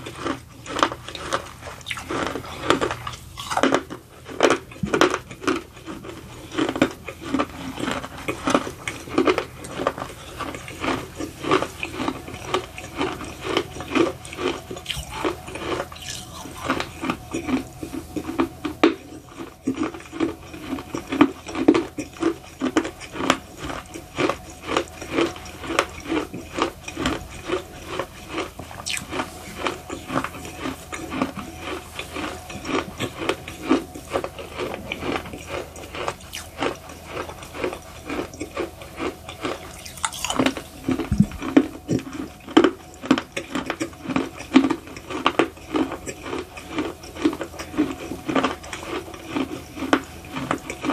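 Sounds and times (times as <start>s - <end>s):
gritty crunching chews: 0.0s - 50.9s.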